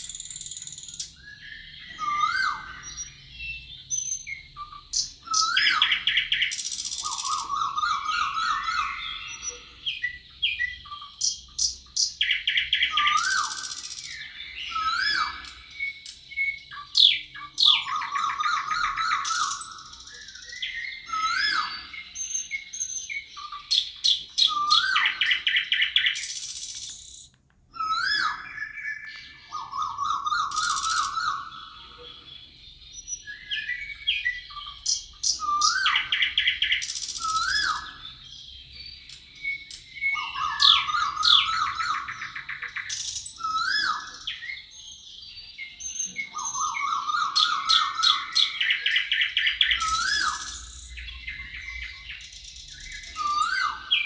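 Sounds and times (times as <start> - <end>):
birds singing in forest: 0.0 - 54.0.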